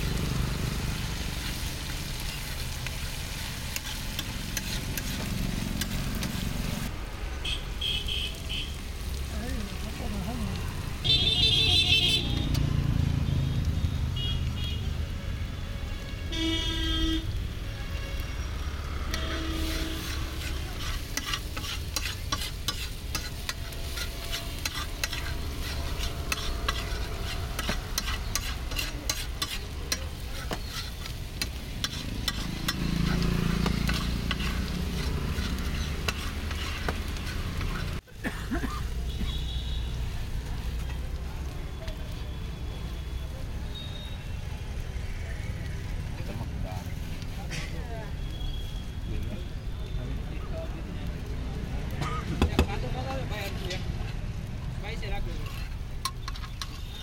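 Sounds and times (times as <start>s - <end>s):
frying sizzle: 0.0s - 57.0s
traffic rumble: 0.0s - 57.0s.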